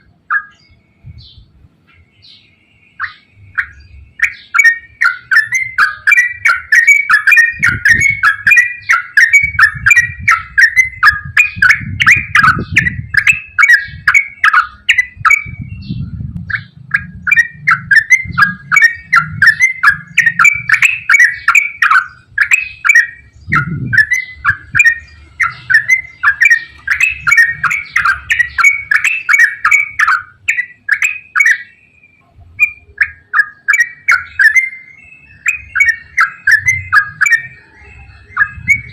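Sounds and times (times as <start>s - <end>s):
bird singing rapid chirps: 0.0s - 38.9s.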